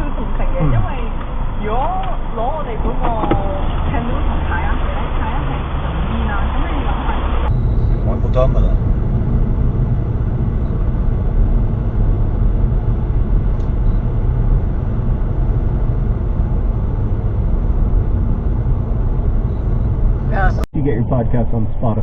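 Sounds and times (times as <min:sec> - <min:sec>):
moving car rumble: 0:00.0 - 0:22.0.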